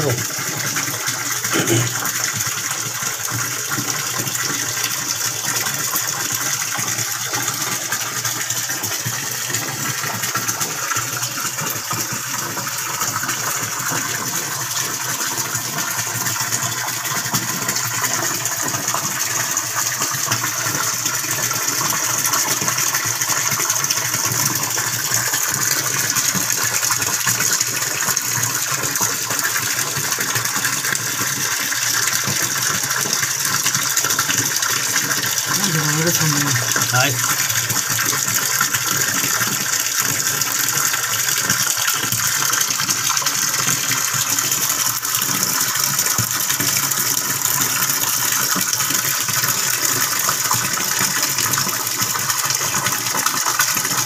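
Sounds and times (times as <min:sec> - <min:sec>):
water running into a tank: 0:00.0 - 0:54.0.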